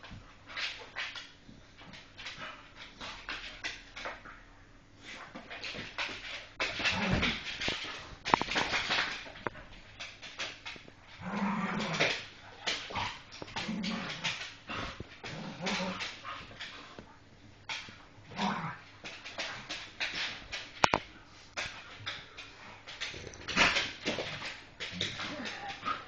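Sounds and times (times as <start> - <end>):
dogs scuffling: 0.0 - 26.0.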